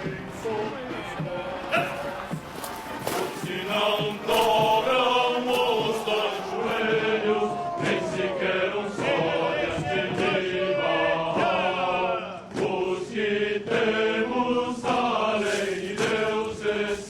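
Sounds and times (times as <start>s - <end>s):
choir chanting: 0.0s - 17.0s.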